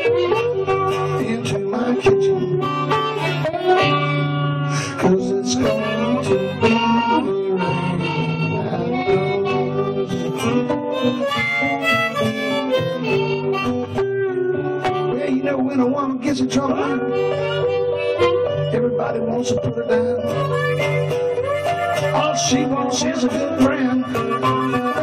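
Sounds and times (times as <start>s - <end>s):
blues harmonica: 0.0s - 25.0s.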